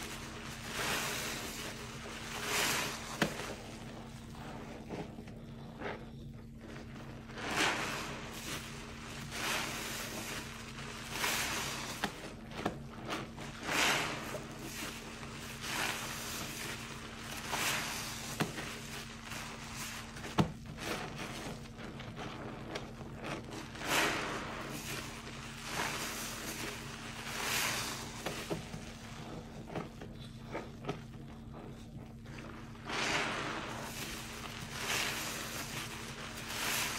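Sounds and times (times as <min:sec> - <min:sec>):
sponge squelching in water: 0:00.0 - 0:36.9.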